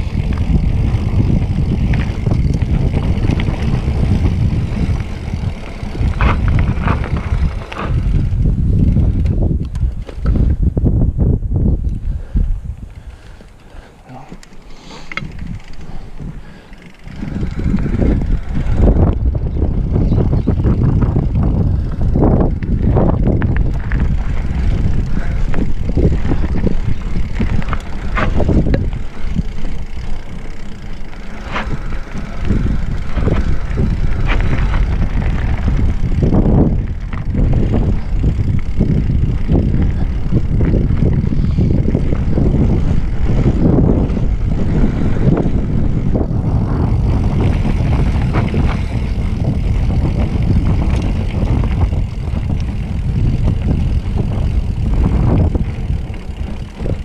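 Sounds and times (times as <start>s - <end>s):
bike tyre noise and rattle: 0.0s - 57.0s
wind buffeting microphone: 0.0s - 57.0s.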